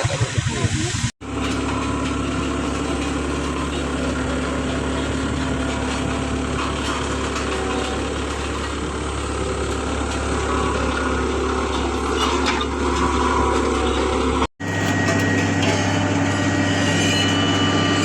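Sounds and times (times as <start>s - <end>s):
machinery engine running: 0.0s - 18.0s
steady engine hum: 0.0s - 18.0s
clinks and scrapes: 1.2s - 18.0s.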